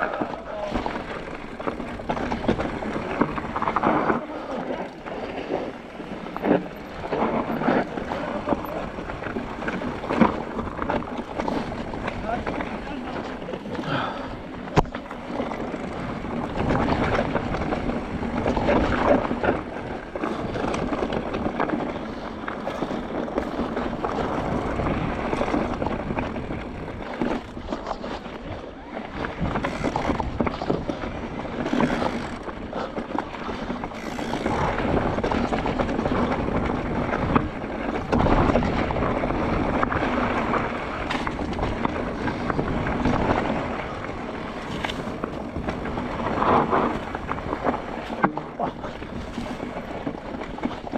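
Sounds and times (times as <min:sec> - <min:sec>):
bike knocks and rattles: 0:00.0 - 0:28.4, 0:29.1 - 0:50.9
bike tyres rushing on dirt: 0:00.0 - 0:50.9
wind on microphone: 0:00.0 - 0:50.9.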